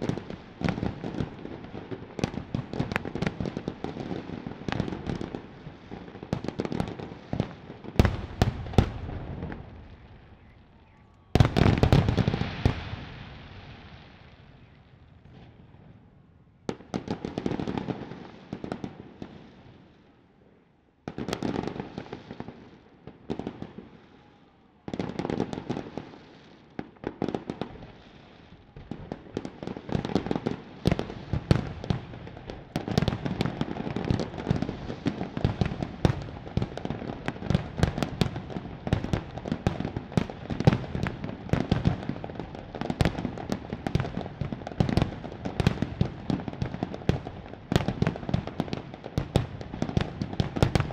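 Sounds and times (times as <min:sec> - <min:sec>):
rapid barrage of firework crackles: 0:00.0 - 0:14.8, 0:21.1 - 0:50.9
fireworks bursting with booms: 0:00.0 - 0:15.9, 0:16.7 - 0:19.9, 0:21.1 - 0:50.9.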